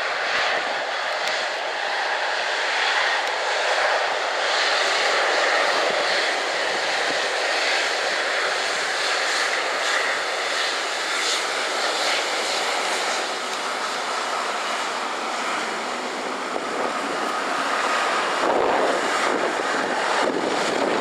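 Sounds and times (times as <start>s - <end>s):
jet engines rushing: 0.0s - 21.0s.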